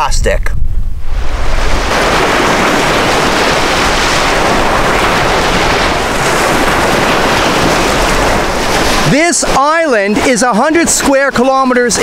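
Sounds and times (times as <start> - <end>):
waves breaking on beach: 1.0 - 12.0.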